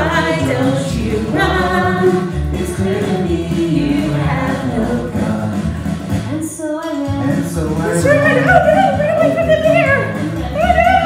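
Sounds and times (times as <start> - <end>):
children's song with backing track: 0.0 - 11.0.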